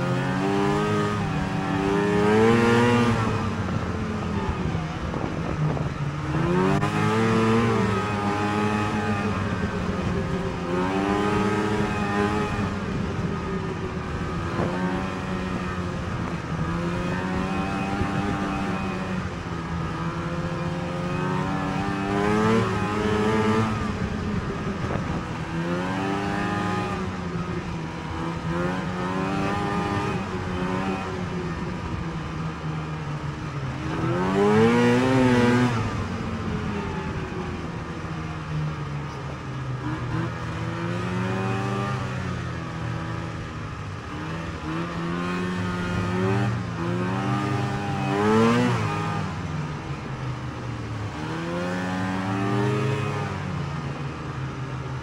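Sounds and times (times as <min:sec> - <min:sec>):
snowmobile engine revving: 0:00.0 - 0:31.9, 0:33.7 - 0:37.6, 0:39.1 - 0:50.2, 0:50.9 - 0:53.5.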